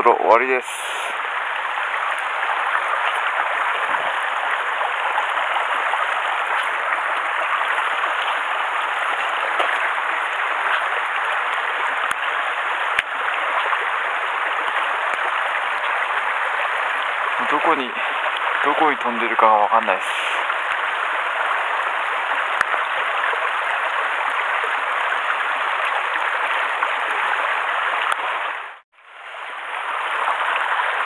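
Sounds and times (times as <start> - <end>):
stream running over rocks: 0.0 - 31.0.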